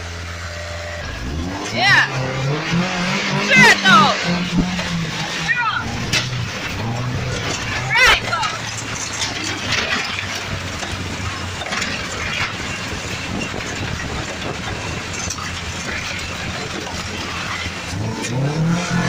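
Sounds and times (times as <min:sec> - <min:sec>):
car engine running: 0:00.0 - 0:19.0
road noise: 0:00.0 - 0:19.0
rattles and clicks: 0:01.0 - 0:19.0.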